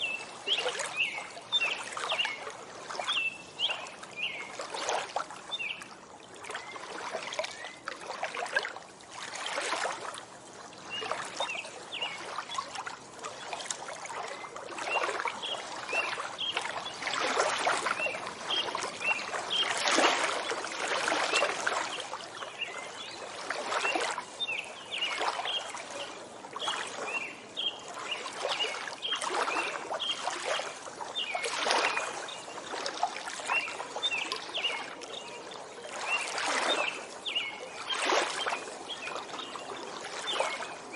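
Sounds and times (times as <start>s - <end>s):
songbirds chirping: 0.0s - 8.6s, 10.7s - 40.9s
small waves lapping: 0.0s - 40.9s.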